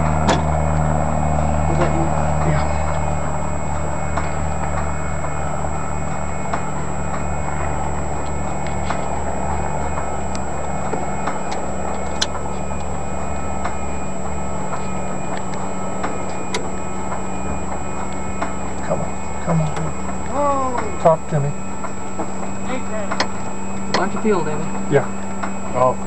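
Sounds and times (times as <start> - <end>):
turbine engine starter whine: 0.0 - 26.0
light regular ticking: 2.3 - 25.6.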